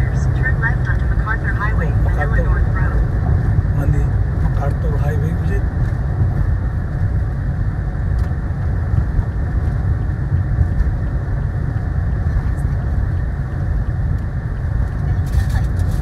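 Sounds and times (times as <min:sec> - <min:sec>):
road and engine rumble in cabin: 0:00.0 - 0:16.0.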